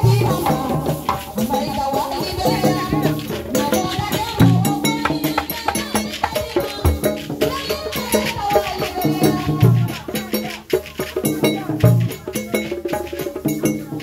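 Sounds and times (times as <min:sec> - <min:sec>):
fast rattles and drums: 0:00.0 - 0:14.0.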